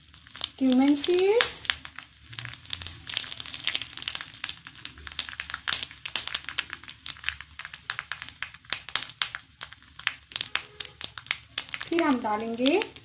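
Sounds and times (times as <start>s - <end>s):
oil sizzling in a pan: 0.0s - 13.0s
seeds crackling and popping: 0.0s - 13.0s.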